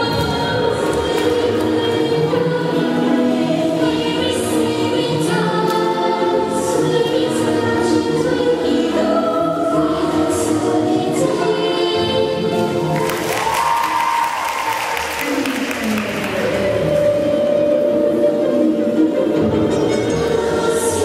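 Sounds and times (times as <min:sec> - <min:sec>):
choir singing: 0:00.0 - 0:14.6, 0:15.3 - 0:21.0.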